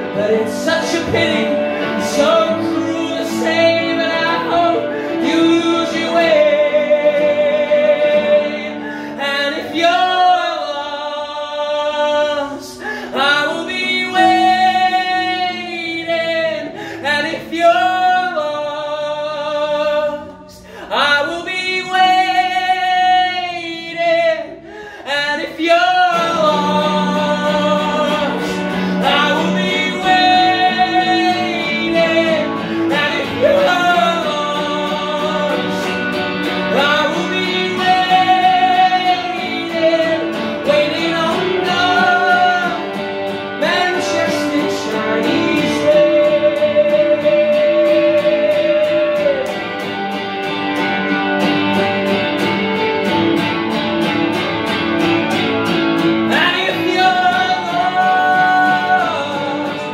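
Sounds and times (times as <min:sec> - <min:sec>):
man singing long notes: 0:00.0 - 0:50.2, 0:56.3 - 0:59.9
strummed electric guitar: 0:00.0 - 0:59.9.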